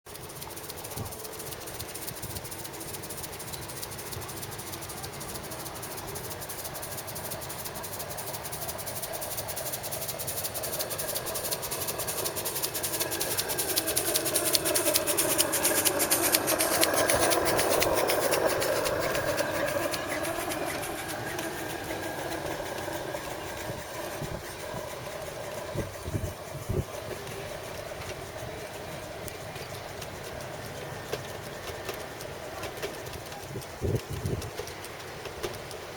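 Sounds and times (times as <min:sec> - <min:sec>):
model steam train exhaust beats: 0:00.1 - 0:35.9
steam hiss: 0:00.1 - 0:35.9.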